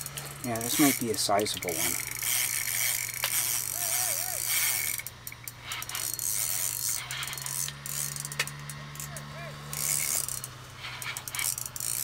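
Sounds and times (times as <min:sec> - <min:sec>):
fishing reel drag ticking: 0:00.0 - 0:12.0.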